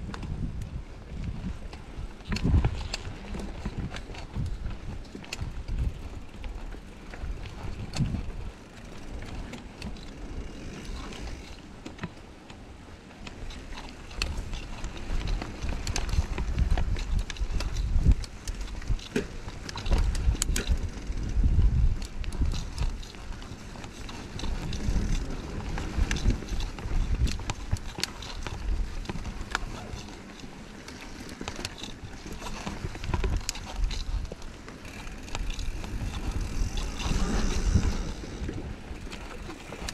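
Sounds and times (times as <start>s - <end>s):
bike clicks and rattles: 0.0s - 39.9s
bike tyres rumbling on dirt: 0.0s - 39.9s.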